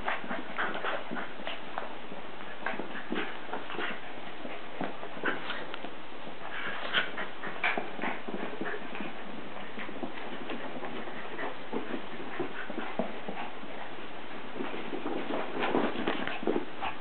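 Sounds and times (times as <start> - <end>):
dogs play-fighting: 0.0 - 17.0.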